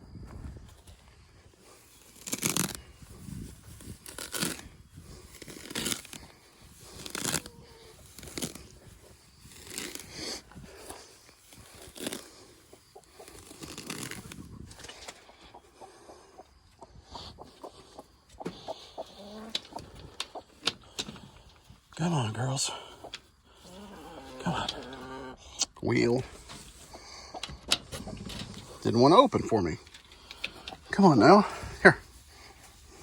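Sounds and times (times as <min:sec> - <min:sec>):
grass being pulled up: 0:00.8 - 0:15.5, 0:18.6 - 0:33.0.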